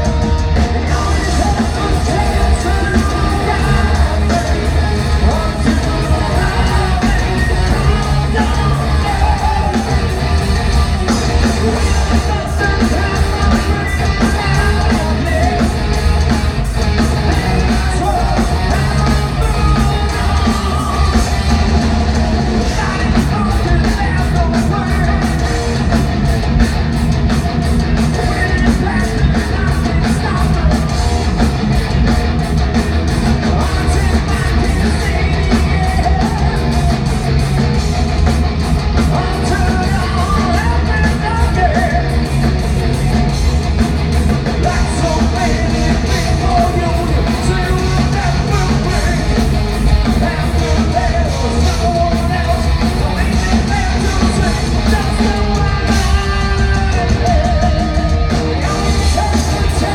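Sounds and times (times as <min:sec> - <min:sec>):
metal band playing live: 0:00.0 - 0:59.9
sung and yelled vocals: 0:00.0 - 0:59.9.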